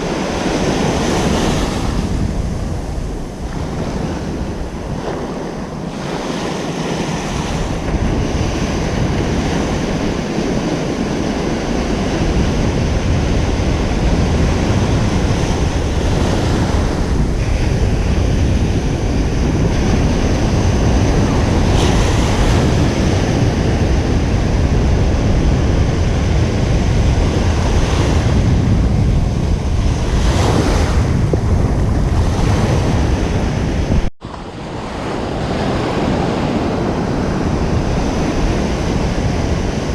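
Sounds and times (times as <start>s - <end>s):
waves breaking on beach: 0.0s - 39.9s
wind on microphone: 0.0s - 39.9s.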